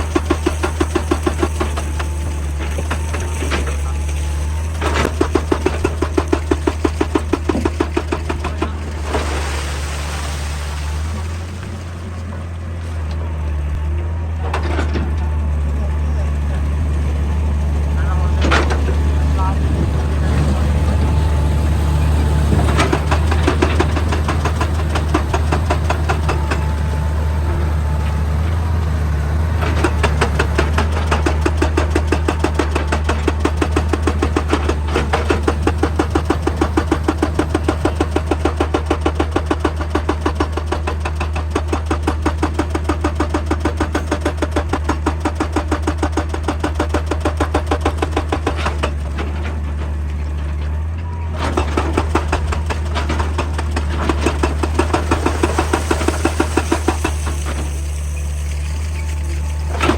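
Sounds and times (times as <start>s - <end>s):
hydraulic breaker hammering rock: 0.0s - 12.8s, 13.6s - 28.8s, 29.4s - 59.9s
excavator diesel engine running: 0.0s - 59.9s.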